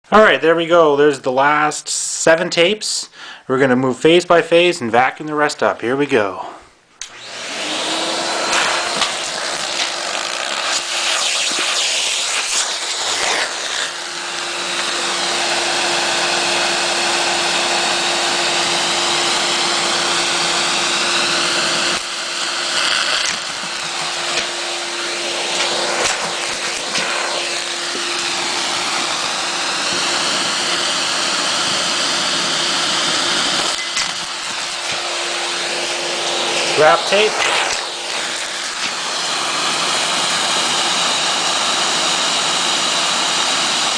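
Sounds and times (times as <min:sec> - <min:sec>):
vacuum cleaner running: 0:07.0 - 0:43.9.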